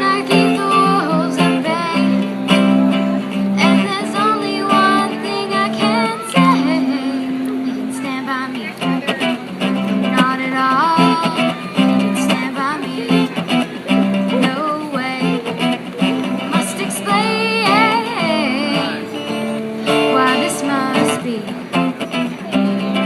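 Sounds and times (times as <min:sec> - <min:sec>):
guitar strummed and plucked: 0:00.0 - 0:23.0
person singing: 0:00.0 - 0:23.0.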